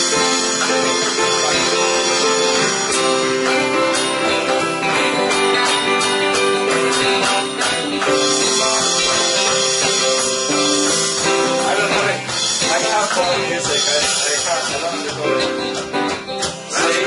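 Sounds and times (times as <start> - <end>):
jingling percussion beat: 0.0 - 17.0
strummed guitar chords: 0.0 - 17.0.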